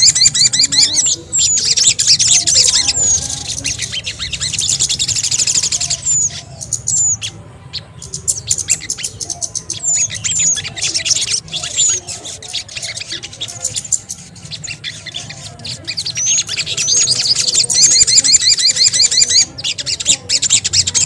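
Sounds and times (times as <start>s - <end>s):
birds chattering trills: 0.0s - 21.0s.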